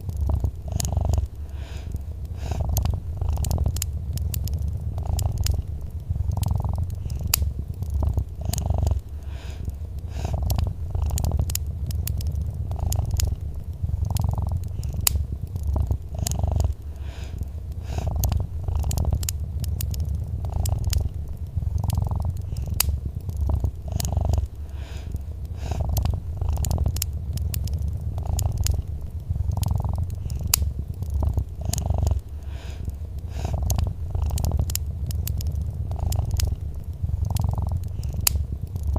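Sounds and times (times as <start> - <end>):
cat purring: 0.0 - 38.9
wood fire crackling: 0.0 - 38.9.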